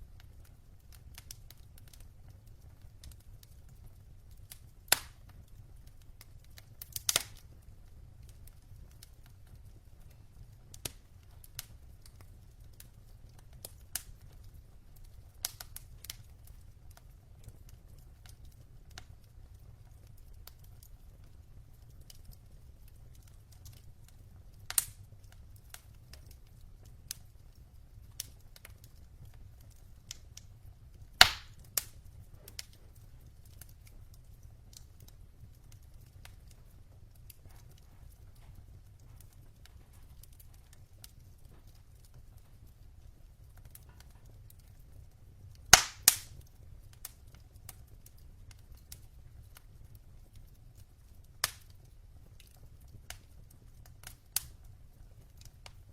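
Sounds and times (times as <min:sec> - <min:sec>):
logs crackling in fireplace: 0:00.0 - 0:55.9.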